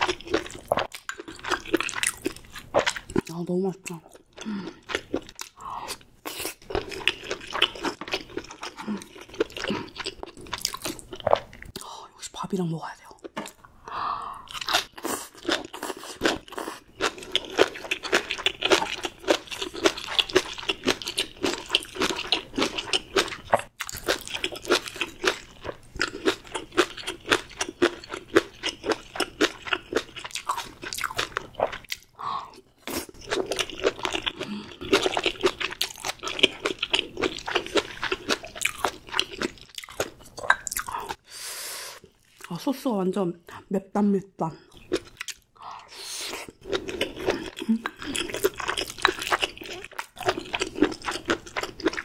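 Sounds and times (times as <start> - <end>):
wet chewing and crunching: 0.0 - 11.9, 14.5 - 41.2, 44.7 - 45.6, 46.3 - 52.0.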